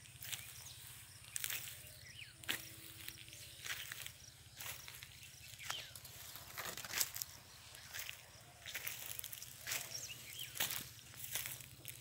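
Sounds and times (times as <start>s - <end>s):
footsteps crunching on straw: 0.0s - 12.0s.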